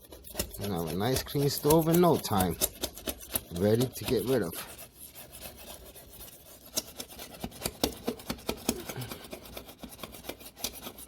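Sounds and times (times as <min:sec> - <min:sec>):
razor scraper on glass stovetop: 0:00.0 - 0:11.0.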